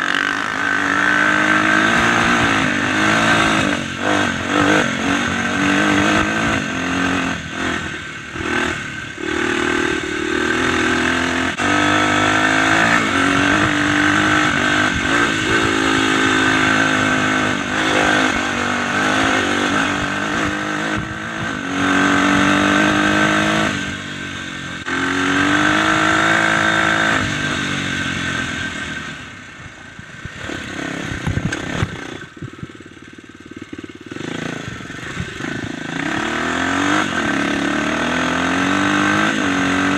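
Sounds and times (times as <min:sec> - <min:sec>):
dirt bike engine revving: 0:00.0 - 0:29.4, 0:30.2 - 0:39.9.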